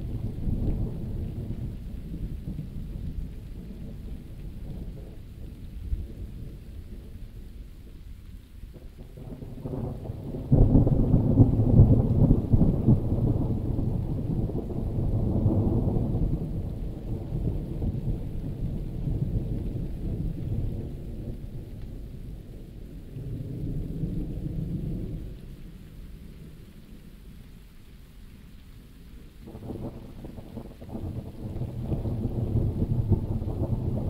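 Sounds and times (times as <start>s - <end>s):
thunder rumbling: 0.0s - 8.0s, 8.7s - 26.7s, 29.4s - 34.0s
heavy rain: 0.0s - 34.0s.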